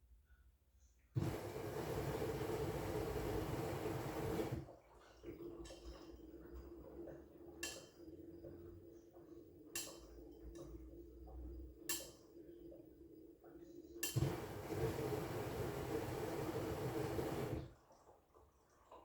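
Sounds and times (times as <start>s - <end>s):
washing machine humming: 1.2s - 11.9s, 12.6s - 18.0s.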